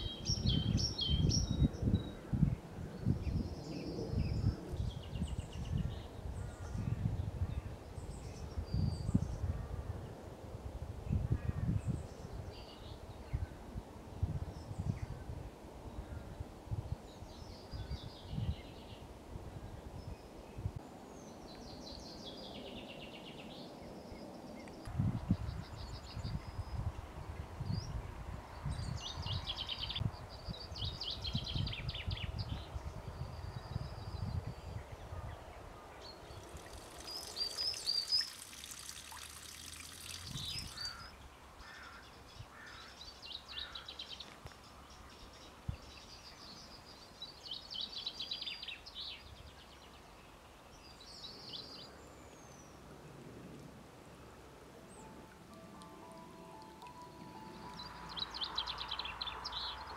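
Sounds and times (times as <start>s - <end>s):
songbirds singing: 0.0s - 9.8s, 14.2s - 53.2s, 54.2s - 59.9s.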